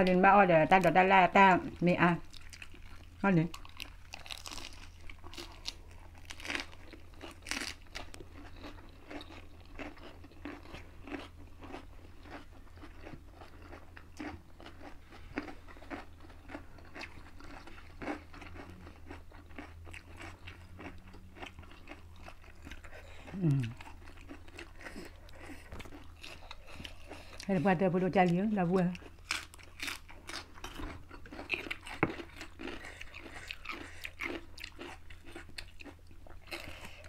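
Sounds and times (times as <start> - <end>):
crunching and chewing lettuce: 1.7 - 37.0.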